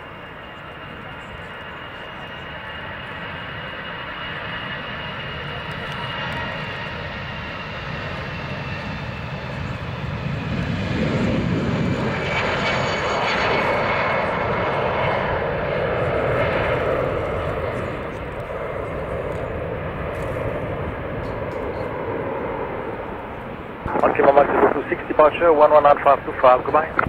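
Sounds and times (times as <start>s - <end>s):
jet engines roaring at takeoff: 0.0s - 27.0s.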